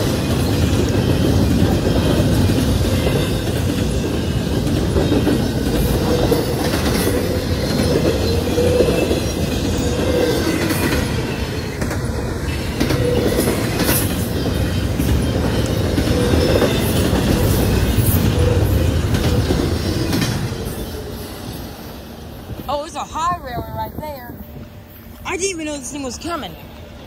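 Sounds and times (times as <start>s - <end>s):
wheels clacking over rail joints: 0.0s - 21.9s
train wheels rumbling on rail: 0.0s - 27.0s.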